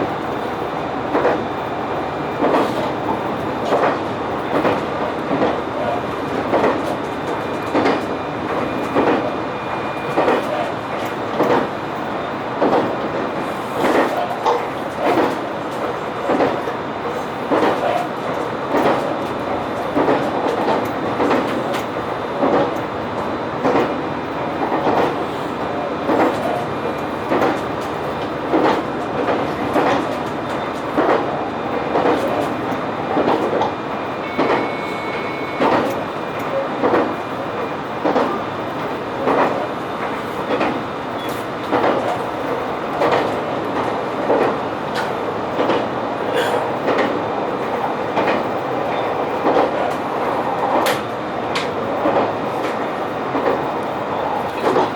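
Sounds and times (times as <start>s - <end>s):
diesel railcar running: 0.0s - 54.9s
train wheels clicking over rail joints: 2.4s - 24.0s, 24.6s - 34.7s, 35.6s - 37.2s, 38.0s - 54.9s.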